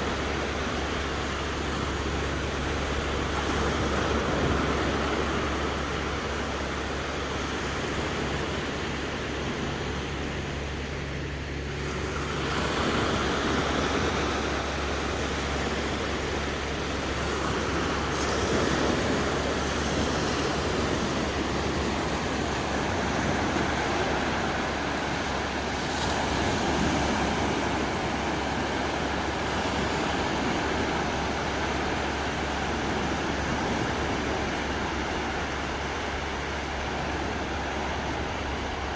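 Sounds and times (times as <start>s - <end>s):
sea waves washing onto beach: 0.0s - 38.9s
steady wind: 0.0s - 38.9s.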